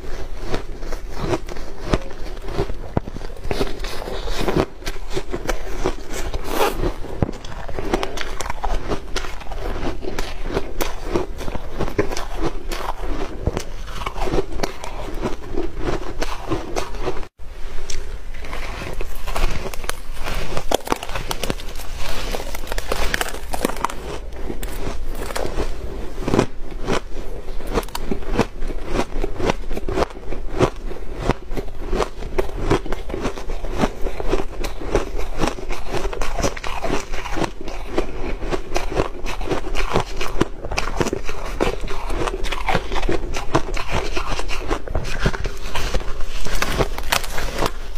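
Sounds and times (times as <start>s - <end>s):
ice being bitten and chewed: 0.0s - 47.9s.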